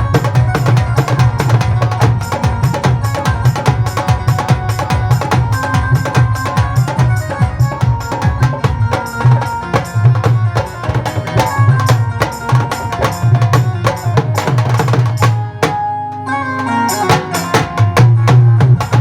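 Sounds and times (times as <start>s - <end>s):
fast busy drumming: 0.0s - 15.9s, 16.9s - 19.0s
live band playing: 0.0s - 19.0s.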